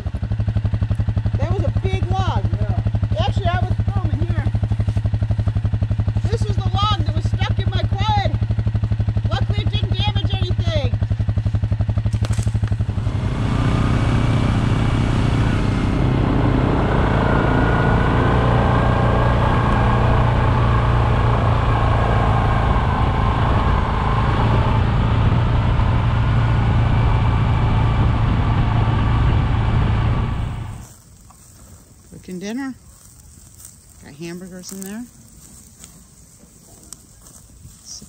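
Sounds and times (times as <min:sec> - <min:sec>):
quad bike engine running: 0:00.0 - 0:38.0.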